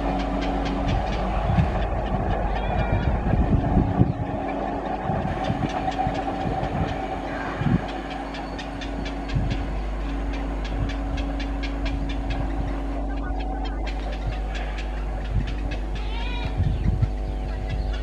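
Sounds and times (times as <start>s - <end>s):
train approaching with steady hum: 0.0s - 18.0s.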